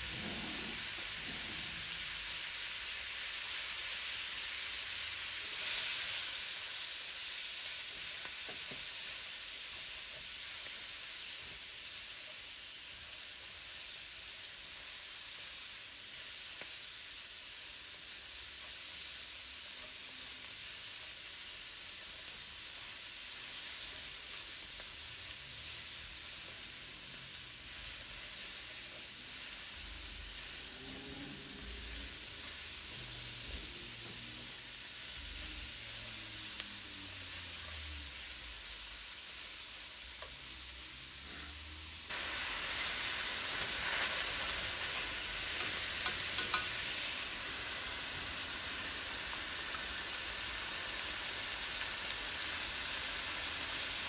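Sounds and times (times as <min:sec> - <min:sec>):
cabbage and sausage sizzling in pan: 0:00.0 - 0:54.0.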